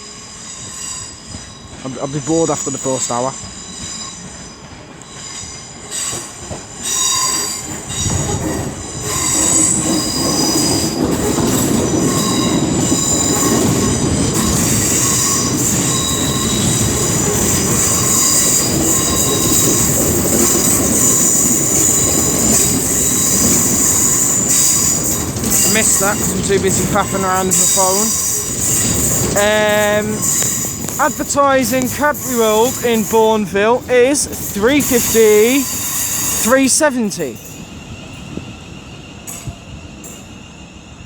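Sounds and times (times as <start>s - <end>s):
train rumble: 0.0s - 41.0s
train wheels squealing: 0.0s - 41.0s.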